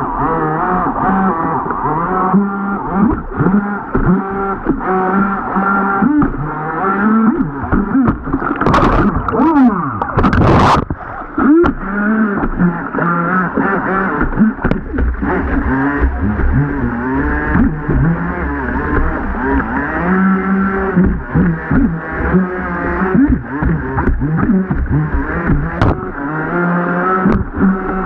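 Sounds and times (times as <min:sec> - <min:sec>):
model boat motor whining: 0:00.0 - 0:28.0.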